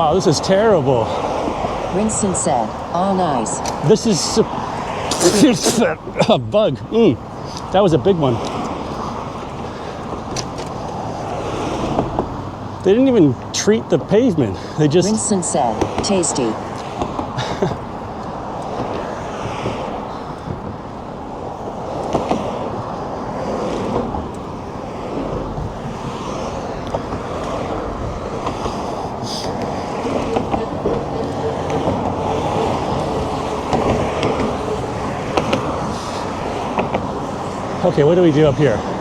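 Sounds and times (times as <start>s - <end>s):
road and traffic noise: 0.0s - 39.0s
wind rushing over microphone: 0.0s - 39.0s.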